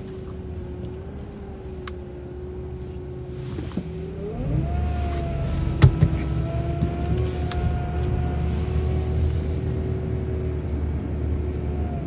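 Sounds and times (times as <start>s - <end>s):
bus drivetrain whine: 0.0s - 12.0s
low engine rumble: 0.0s - 12.0s.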